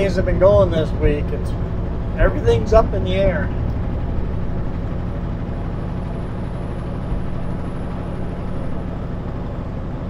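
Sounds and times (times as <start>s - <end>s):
road noise: 0.0s - 10.0s
truck engine drone: 0.0s - 10.0s.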